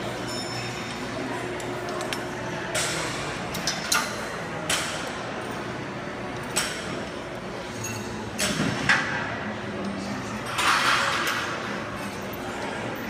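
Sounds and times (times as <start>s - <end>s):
busy gym hubbub: 0.0s - 13.0s.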